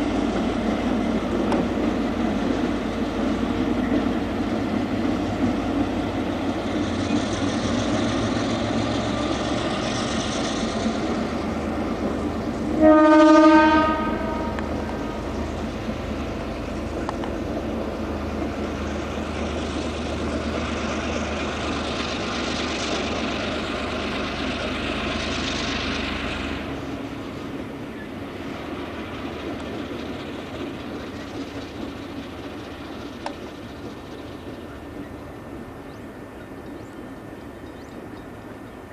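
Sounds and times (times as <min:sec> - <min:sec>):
diesel train passing: 0:00.0 - 0:38.9
rail noise: 0:00.0 - 0:38.9.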